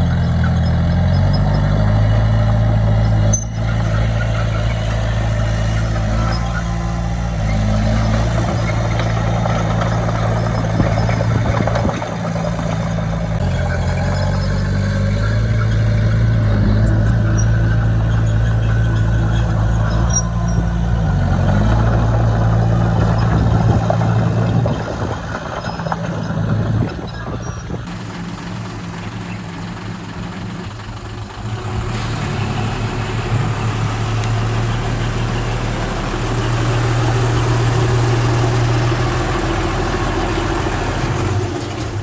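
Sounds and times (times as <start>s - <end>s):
heavy diesel engine working: 0.0s - 42.0s.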